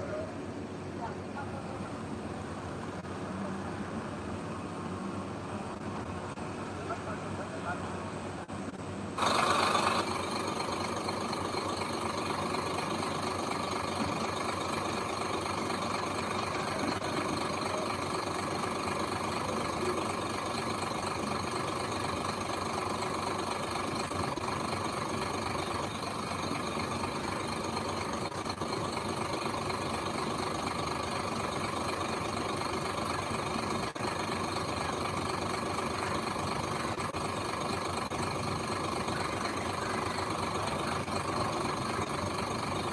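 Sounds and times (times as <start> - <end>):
heavy machinery diesel engine running: 0.0 - 42.9.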